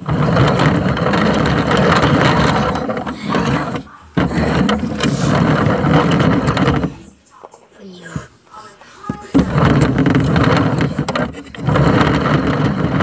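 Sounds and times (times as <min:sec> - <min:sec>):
phone microphone rubbing clothing: 0:00.0 - 0:13.0.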